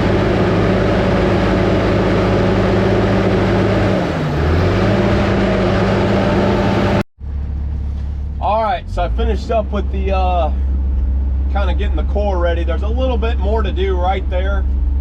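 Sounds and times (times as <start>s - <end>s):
dozer diesel engine running: 0.0s - 15.0s.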